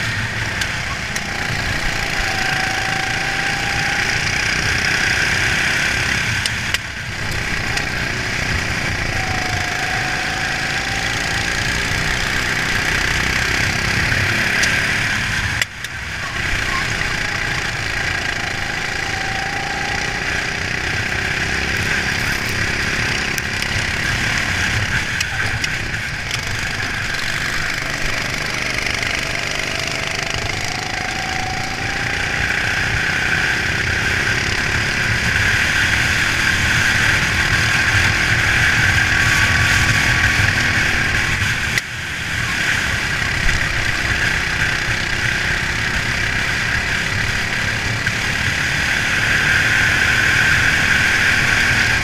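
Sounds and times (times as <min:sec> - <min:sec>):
kart engine running at speed: 0:00.0 - 0:52.0.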